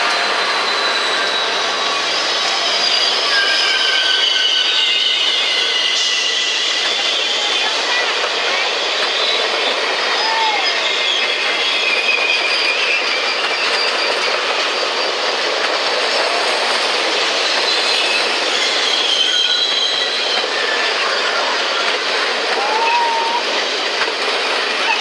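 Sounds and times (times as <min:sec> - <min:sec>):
high-pitched wheel squeal: 0:00.0 - 0:23.7
train wheels rolling on rails: 0:00.0 - 0:25.0.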